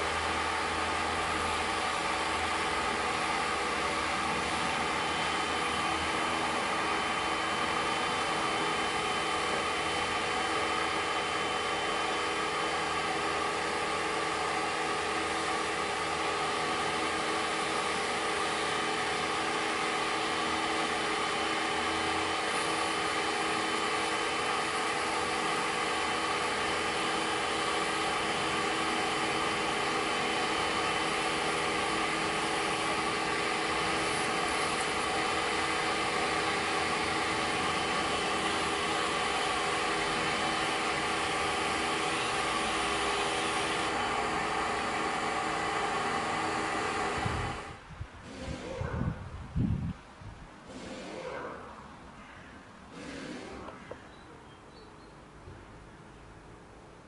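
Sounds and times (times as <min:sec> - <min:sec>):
pressure washer motor humming: 0:00.0 - 0:48.9, 0:52.9 - 0:53.9.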